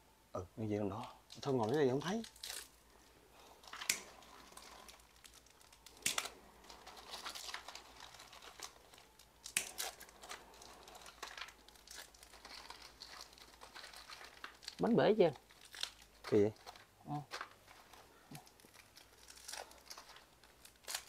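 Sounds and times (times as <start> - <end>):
plastic packaging crinkling: 1.3 - 21.0.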